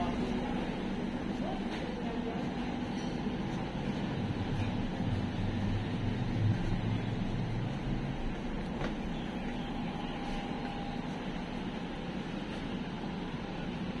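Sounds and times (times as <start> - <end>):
city street background noise: 0.0 - 14.0.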